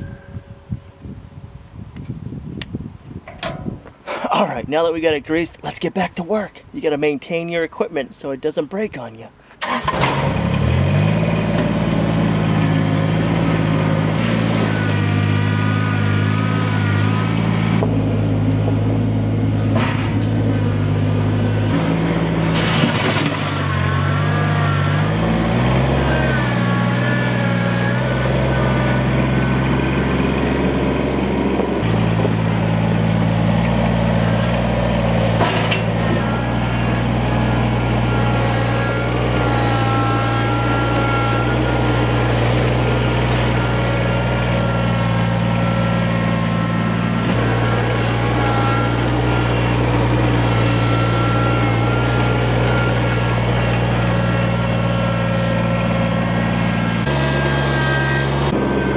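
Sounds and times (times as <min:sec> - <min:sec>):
tractor diesel engine running: 0:00.0 - 0:01.9, 0:03.2 - 0:58.9.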